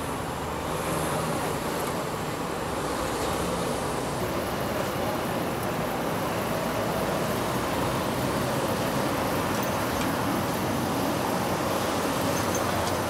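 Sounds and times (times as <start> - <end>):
cars and trucks passing: 0.0 - 13.0.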